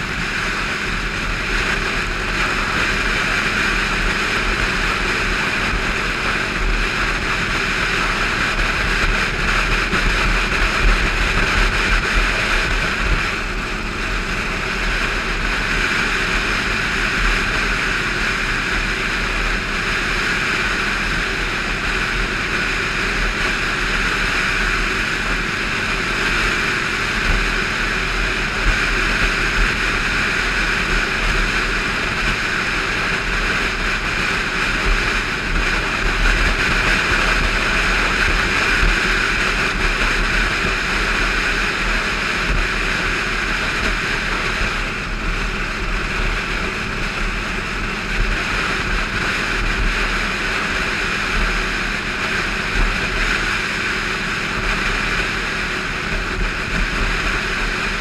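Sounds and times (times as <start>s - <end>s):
motorcycle engine running: 0.0s - 58.0s
wind rumbling on microphone: 0.0s - 58.0s.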